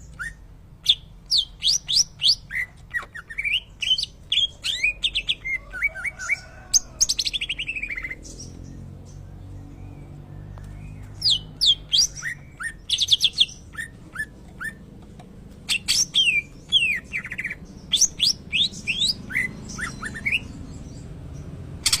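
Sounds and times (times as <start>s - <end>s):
bird singing trills and whistles: 0.0s - 14.9s, 15.7s - 22.0s.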